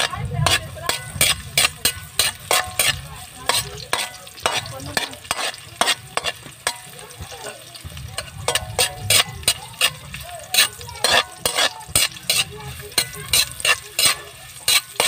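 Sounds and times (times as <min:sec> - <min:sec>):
garlic and onion sizzling in oil: 0:00.0 - 0:15.0
metal spatula scraping a wok: 0:00.0 - 0:15.0.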